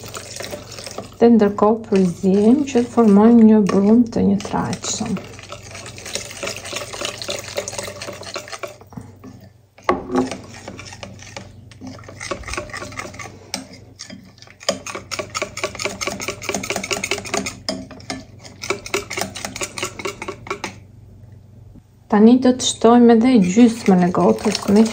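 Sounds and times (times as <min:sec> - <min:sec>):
wire whisk beating batter in bowl: 0:00.0 - 0:20.8, 0:23.2 - 0:24.9.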